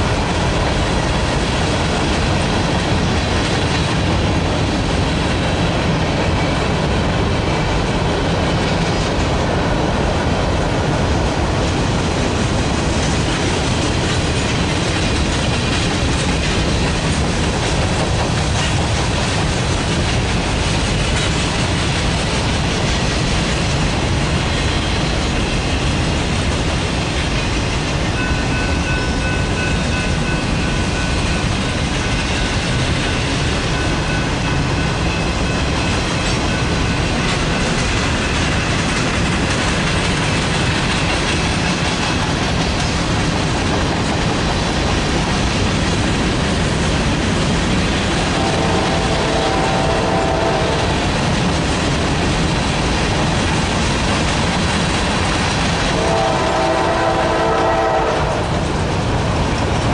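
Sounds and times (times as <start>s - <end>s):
freight train rumbling past: 0.0s - 59.9s
wheels clacking over rail joints: 0.0s - 59.9s.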